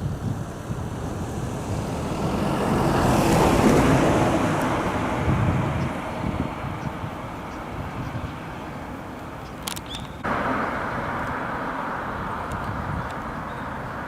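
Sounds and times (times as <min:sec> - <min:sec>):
vehicle passing by: 0:00.2 - 0:08.9, 0:10.2 - 0:14.0.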